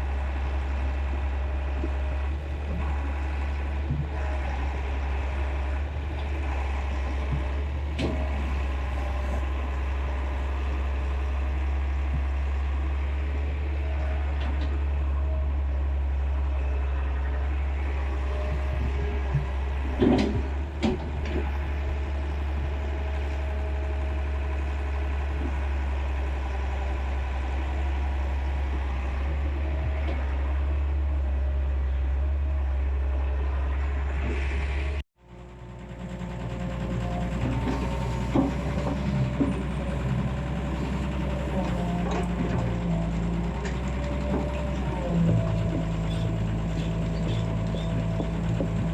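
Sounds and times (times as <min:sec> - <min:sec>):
excavator diesel engine droning: 0:00.0 - 0:48.9.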